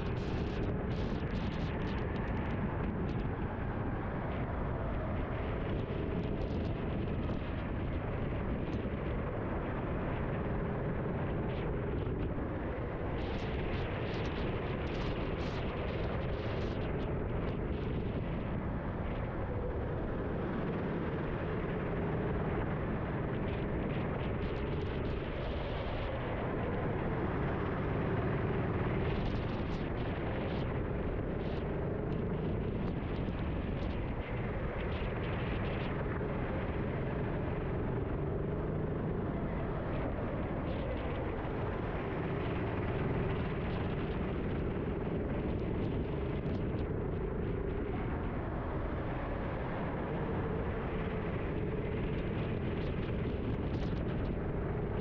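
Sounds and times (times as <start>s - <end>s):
rush of noise: 0.0s - 55.0s.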